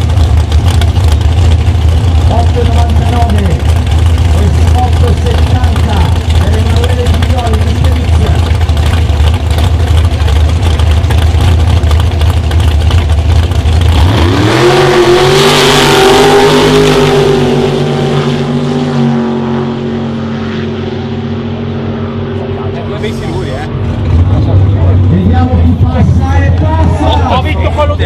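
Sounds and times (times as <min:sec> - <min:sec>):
drag racing car engine: 0:00.0 - 0:28.0.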